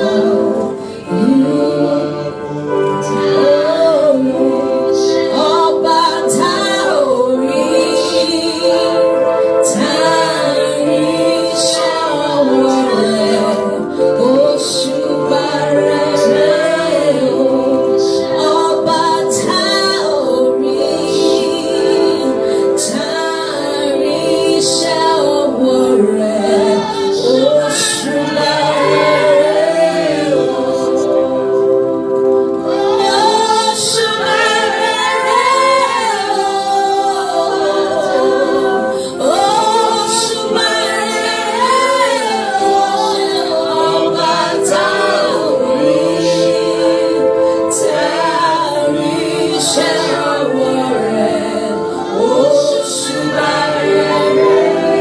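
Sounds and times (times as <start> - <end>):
choir singing: 0.0 - 55.0
lead voice singing: 0.0 - 55.0.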